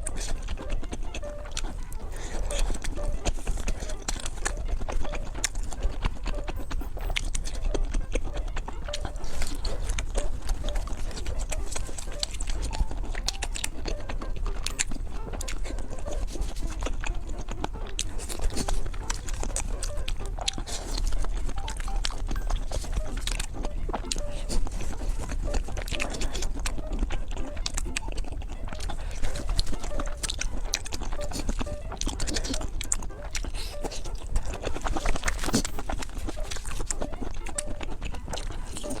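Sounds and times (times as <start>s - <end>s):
chewing with wet mouth clicks: 0.0s - 39.0s.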